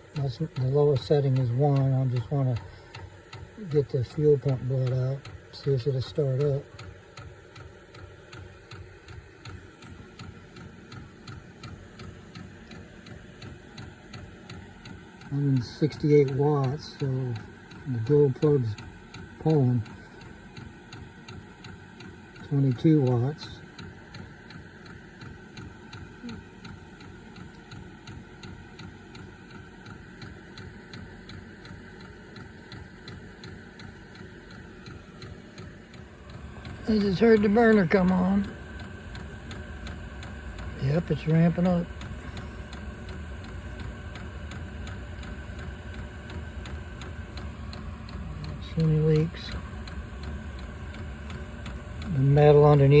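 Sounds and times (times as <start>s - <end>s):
fuel pump ticking: 0.0s - 53.0s
heater fan motor running: 0.0s - 53.0s.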